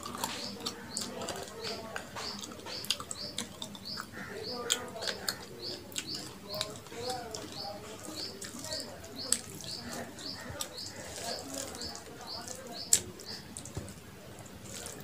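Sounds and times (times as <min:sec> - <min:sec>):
chewing and lip smacks: 0:00.0 - 0:15.0
fingers mixing rice on steel plate: 0:00.0 - 0:15.0.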